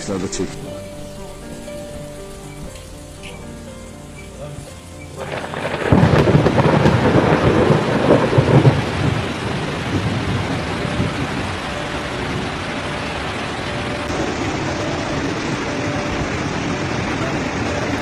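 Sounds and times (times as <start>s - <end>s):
hiss of rain: 0.0s - 18.0s
rough low rumble: 0.0s - 18.0s.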